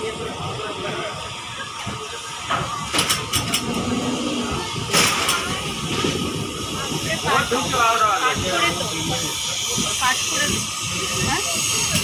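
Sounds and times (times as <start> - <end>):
train carriage running noise: 0.0 - 12.0.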